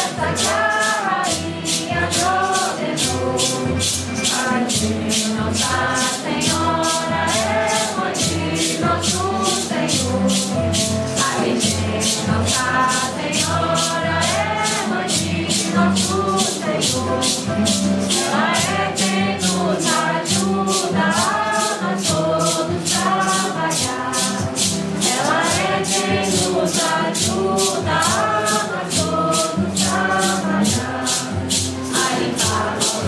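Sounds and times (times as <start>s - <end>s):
group singing a hymn: 0.0s - 33.0s
maracas shaken: 0.0s - 33.0s.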